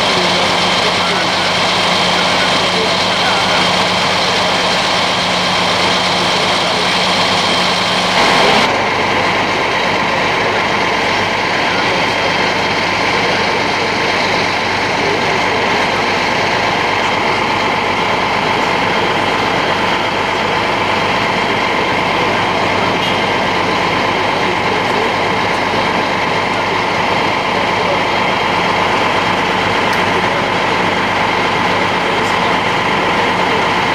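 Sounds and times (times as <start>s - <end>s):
heavy engine running: 0.0s - 33.9s.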